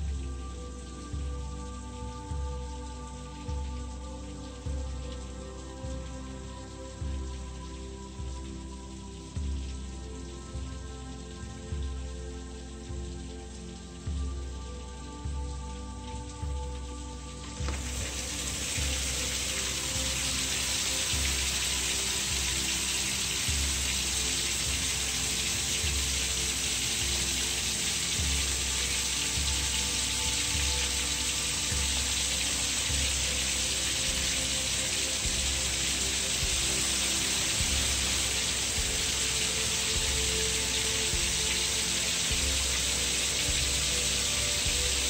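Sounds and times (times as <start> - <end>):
heavy rain pouring: 0.0 - 45.0
low recurring pulse: 0.0 - 45.0.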